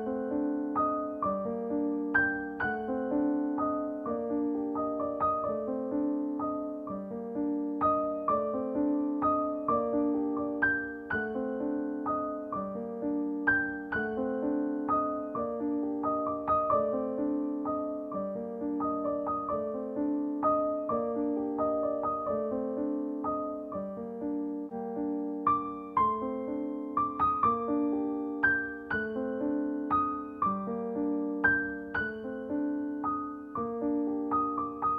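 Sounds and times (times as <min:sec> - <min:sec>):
gentle piano melody: 0:00.0 - 0:34.9.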